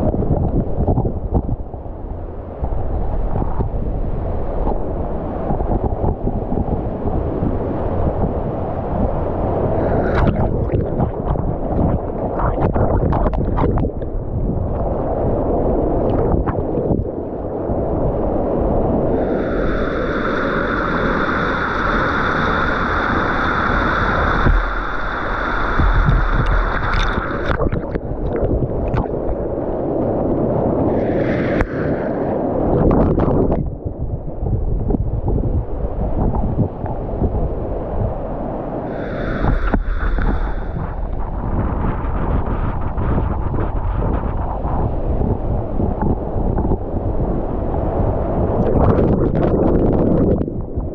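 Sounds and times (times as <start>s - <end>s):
water rushing and churning: 0.0s - 50.9s.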